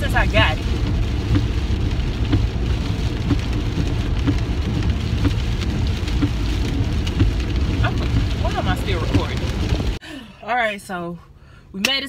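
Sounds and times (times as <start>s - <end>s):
heavy rain on car roof: 0.0s - 10.0s
low car rumble: 0.0s - 10.0s.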